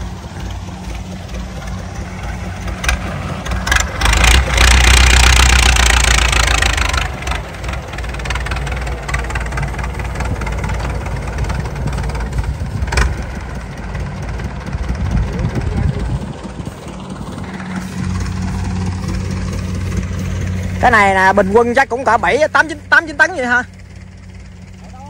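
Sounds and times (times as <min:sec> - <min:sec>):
rushing noise: 0:00.0 - 0:22.2
tractor diesel engine droning: 0:00.0 - 0:25.0.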